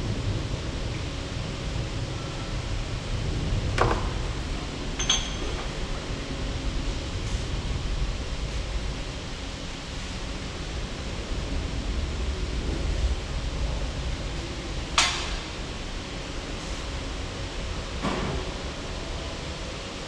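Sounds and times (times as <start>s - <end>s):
rushing workshop background noise: 0.0s - 20.0s.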